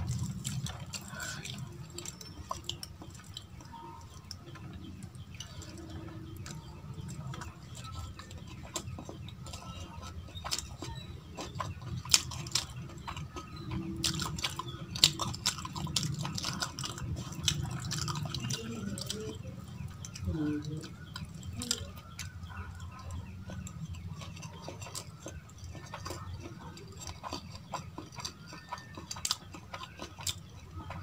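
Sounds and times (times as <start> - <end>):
wet chewing: 0.0 - 31.0.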